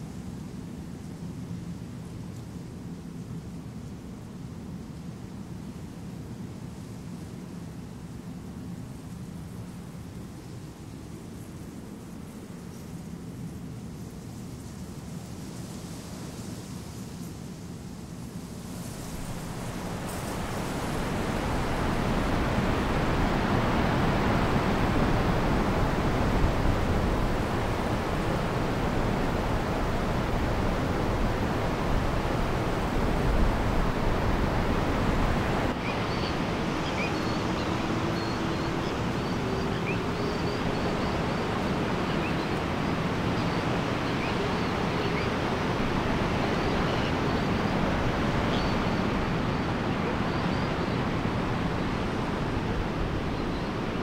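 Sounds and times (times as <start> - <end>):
sea surf on a beach: 0.0 - 54.0.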